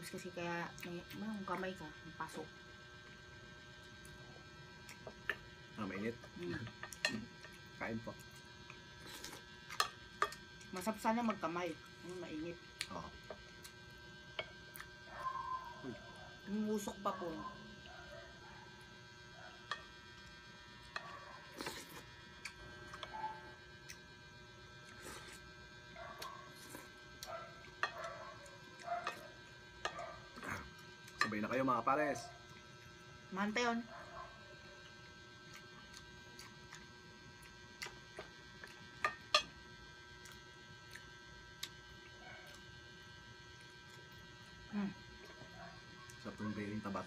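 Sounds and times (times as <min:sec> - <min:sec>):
faint electrical hum: 0:00.0 - 0:47.0.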